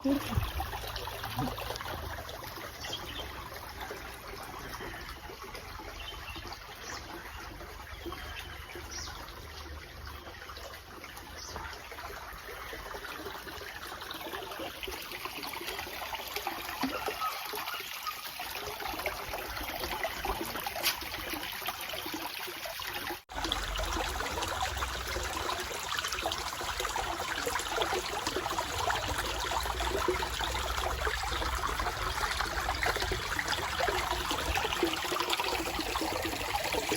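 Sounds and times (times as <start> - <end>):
water trickling and splashing: 0.0 - 36.9.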